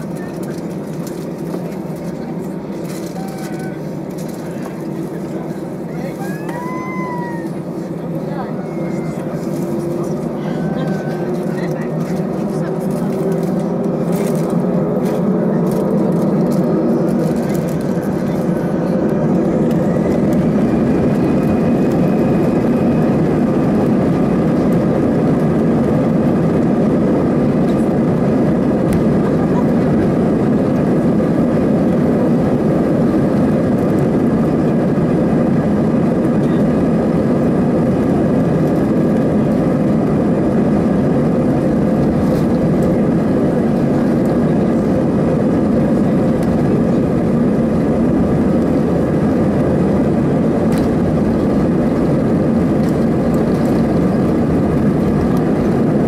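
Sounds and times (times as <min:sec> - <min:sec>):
jet engines rumbling with high whine: 0:00.0 - 0:56.0.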